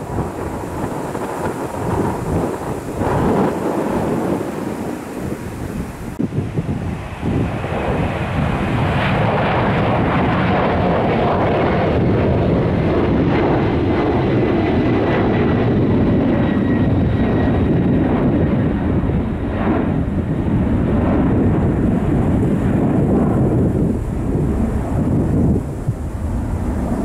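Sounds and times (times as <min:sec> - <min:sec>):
jet airliner taking off: 0:00.0 - 0:27.0.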